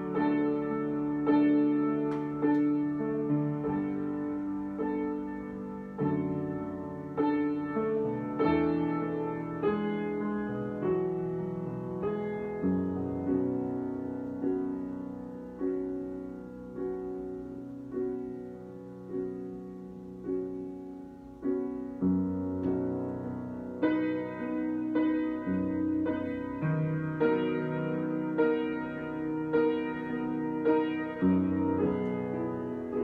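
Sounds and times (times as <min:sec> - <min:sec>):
slow piano chords: 0:00.0 - 0:33.0.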